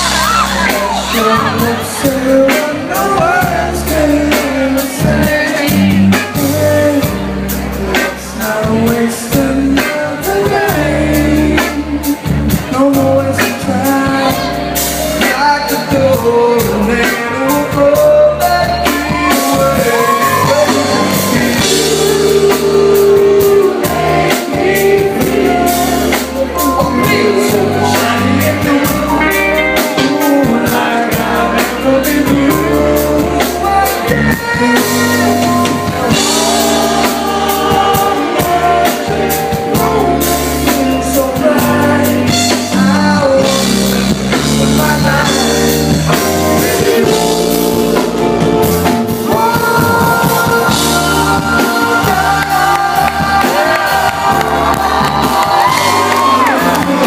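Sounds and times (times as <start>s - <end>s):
live soul band playing: 0.0s - 57.0s
man singing lead: 0.0s - 57.0s.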